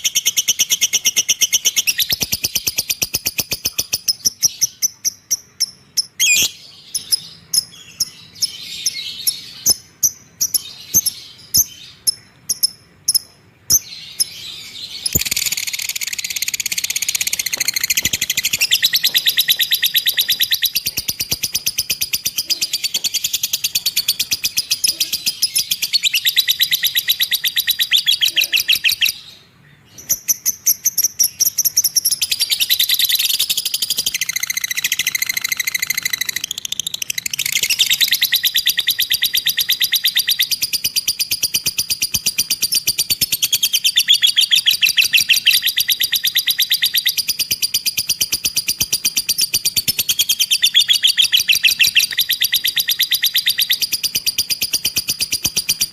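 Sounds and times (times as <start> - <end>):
lovebird rapid chattering chirps: 0.0 - 29.2, 30.0 - 55.9.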